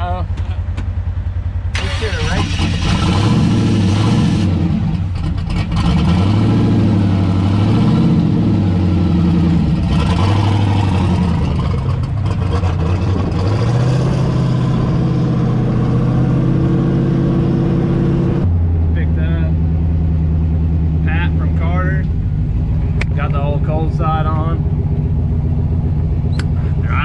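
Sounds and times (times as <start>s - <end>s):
car engine droning while driving: 0.0s - 27.0s.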